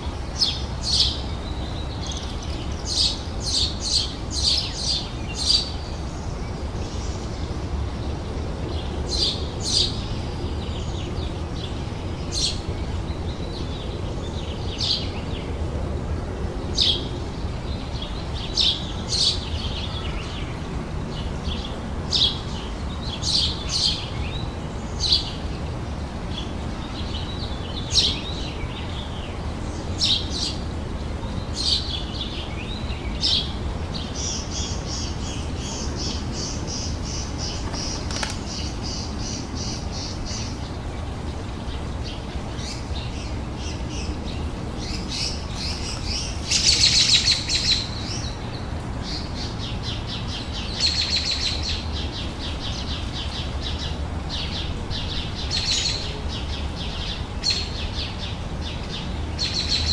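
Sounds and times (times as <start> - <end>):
small birds chirping: 0.0 - 59.9
steady low background noise: 0.0 - 59.9.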